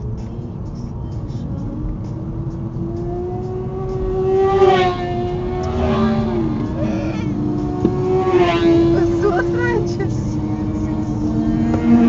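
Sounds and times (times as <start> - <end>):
car road rumble: 0.0 - 12.0
motorcycle engines whining: 0.0 - 12.0
car rushing past: 1.2 - 12.0.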